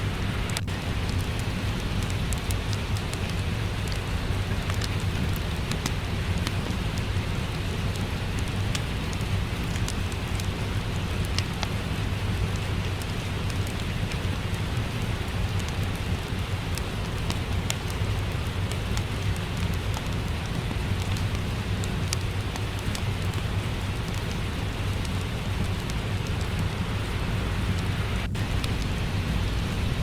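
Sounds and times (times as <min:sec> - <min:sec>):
steady rain: 0:00.0 - 0:30.0
wood fire crackling: 0:00.0 - 0:30.0.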